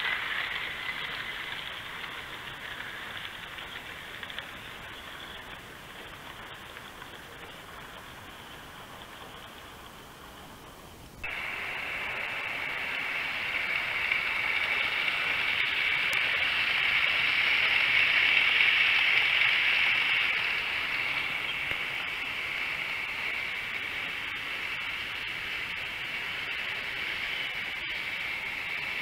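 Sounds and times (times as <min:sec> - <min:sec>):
model train rolling on track: 0:00.0 - 0:29.0.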